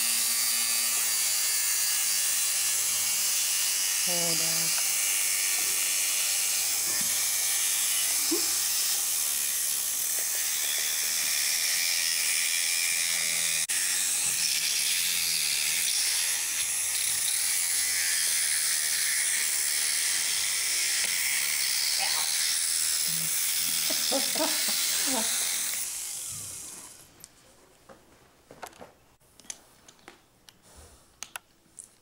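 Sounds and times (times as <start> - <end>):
motorized dental float grinding: 0.0 - 27.1.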